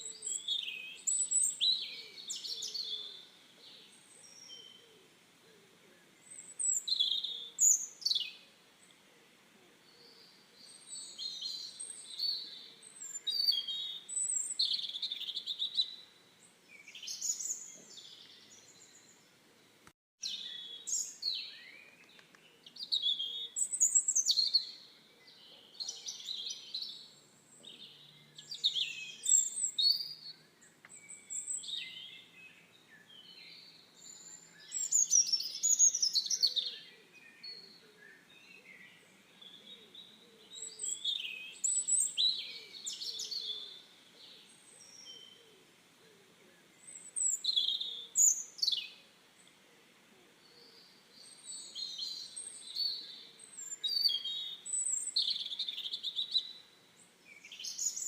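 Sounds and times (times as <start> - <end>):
birds chirping and singing: 0.0 - 5.1, 6.2 - 9.0, 9.8 - 45.6, 46.6 - 49.6, 50.4 - 56.6, 57.3 - 58.0.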